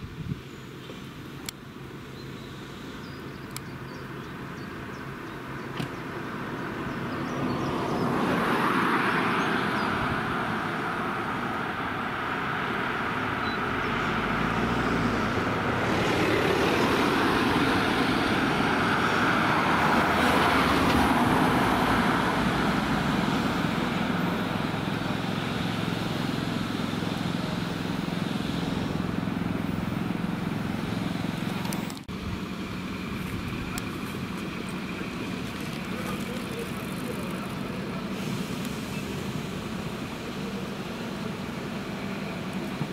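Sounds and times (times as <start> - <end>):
vehicles driving past: 0.0 - 42.9.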